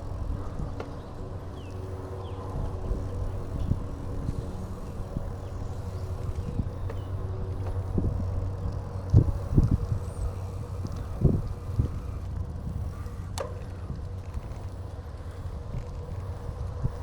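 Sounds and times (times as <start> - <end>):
bicycle bumps: 0.0 - 17.0
bicycle tyre rumble: 0.0 - 17.0
wind buffeting microphone: 0.0 - 17.0.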